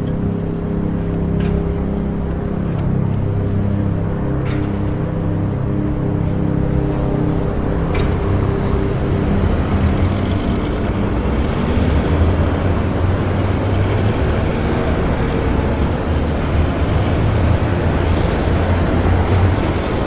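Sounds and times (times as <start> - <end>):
vehicle engines rumbling: 0.0 - 20.0.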